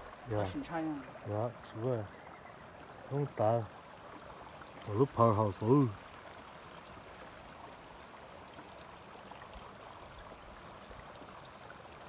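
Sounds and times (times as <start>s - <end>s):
water flowing in rocky stream: 0.0s - 12.0s.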